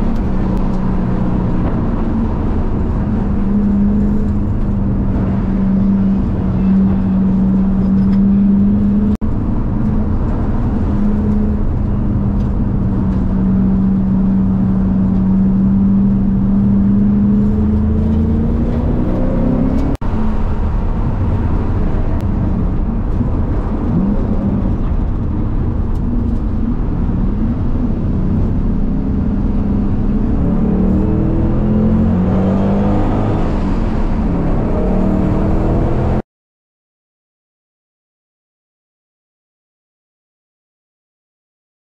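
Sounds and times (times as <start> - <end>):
car engine revving: 0.0 - 36.2
road noise inside car: 0.0 - 36.2.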